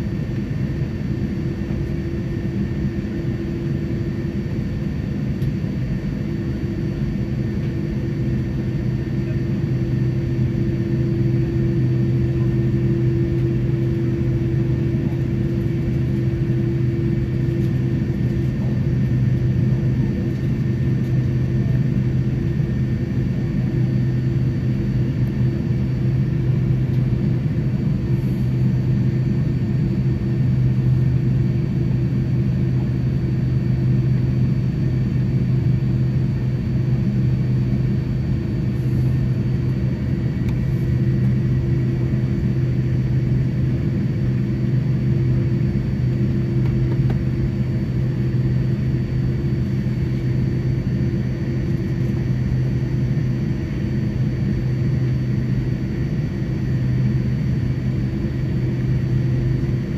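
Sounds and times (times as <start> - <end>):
jet cabin low hum: 0.0 - 59.9.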